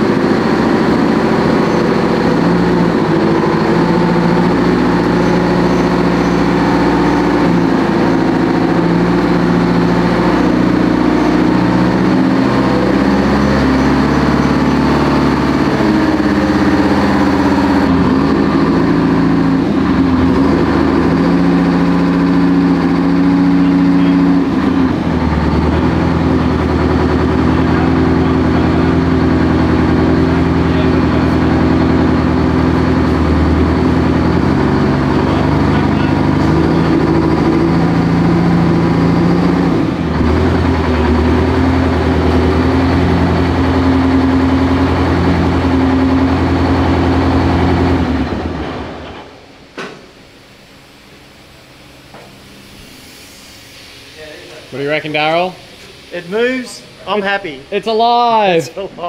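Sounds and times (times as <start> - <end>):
diesel tank engine running: 0.0 - 59.0.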